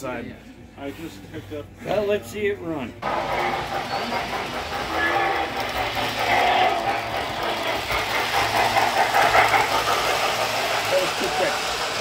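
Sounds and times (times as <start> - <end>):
model train whirring on track: 1.9 - 12.0.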